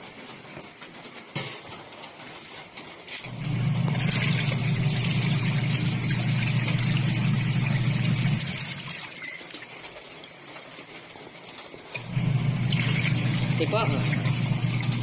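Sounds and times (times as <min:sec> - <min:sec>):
washing machine churning: 0:00.0 - 0:15.0.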